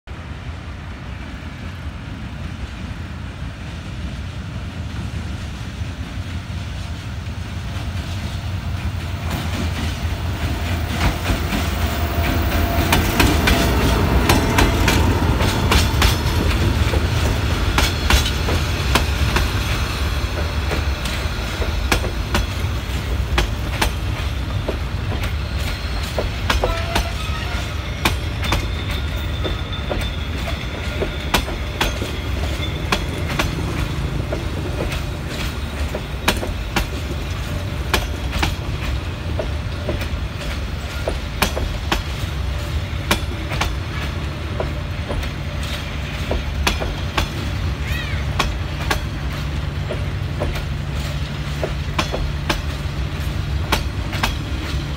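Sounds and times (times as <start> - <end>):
diesel locomotive rumble: 0.2 - 54.9
train wheels clicking over rail joints: 7.6 - 54.9.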